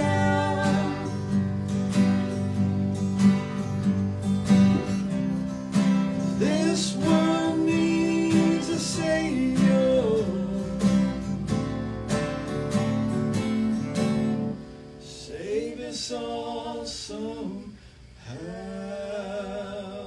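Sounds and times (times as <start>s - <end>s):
acoustic guitars strumming: 0.0s - 19.8s.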